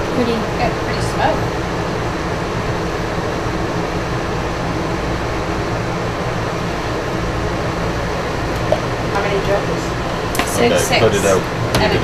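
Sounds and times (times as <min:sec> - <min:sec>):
fan motor hum: 0:00.0 - 0:12.0.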